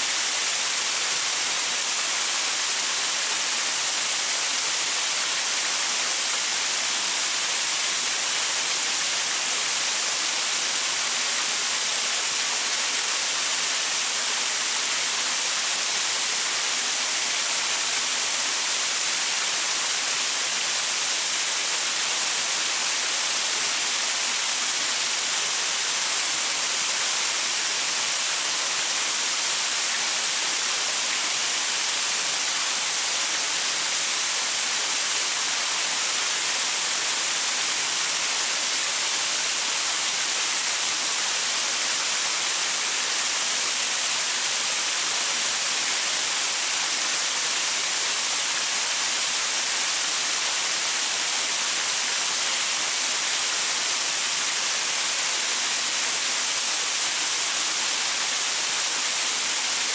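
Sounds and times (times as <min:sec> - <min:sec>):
waterfall pouring onto rocks: 0:00.0 - 0:59.9.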